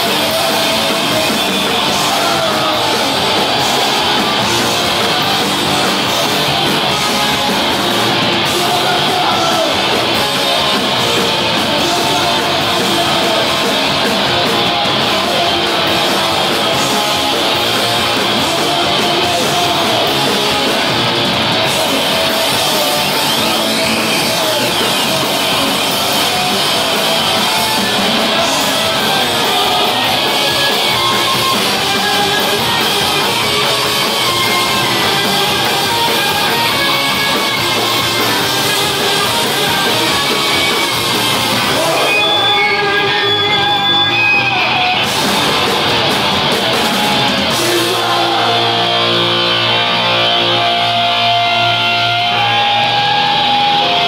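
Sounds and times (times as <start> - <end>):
distorted electric guitar: 0.0 - 54.0
drums: 0.0 - 54.0
shouted vocals: 0.0 - 54.0.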